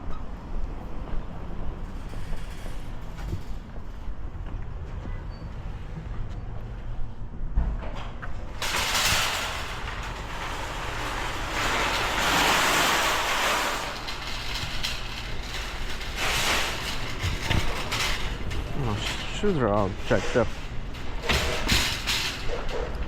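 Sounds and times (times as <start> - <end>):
low steady road hum: 0.0 - 23.0.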